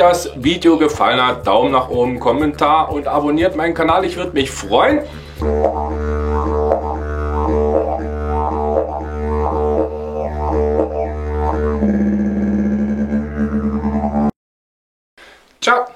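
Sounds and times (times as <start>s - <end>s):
didgeridoo drone: 1.2s - 14.4s.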